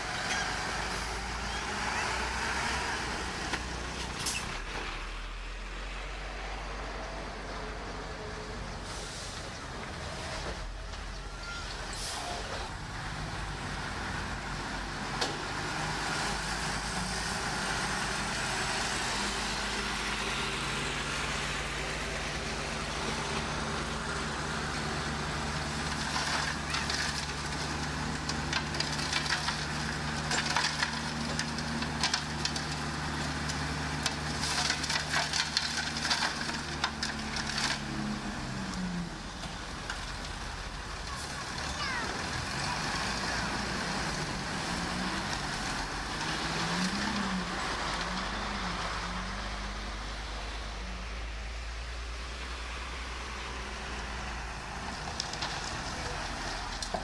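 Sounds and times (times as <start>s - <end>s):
heavy diesel engine running: 5.3s - 57.0s.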